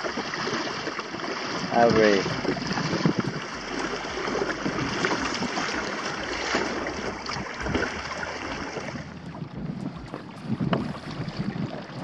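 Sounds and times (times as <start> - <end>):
water splashing against hulls: 0.0 - 12.0.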